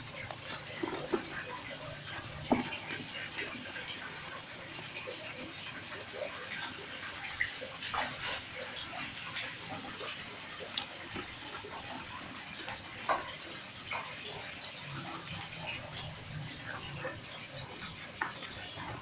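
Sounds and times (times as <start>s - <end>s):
fish flopping and splashing in water: 0.0s - 16.3s.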